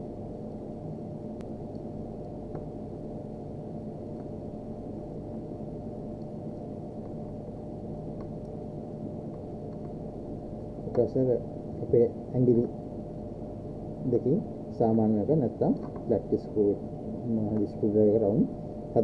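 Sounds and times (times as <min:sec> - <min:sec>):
faint constant tone: 0:00.0 - 0:19.0
low background hum: 0:00.0 - 0:19.0.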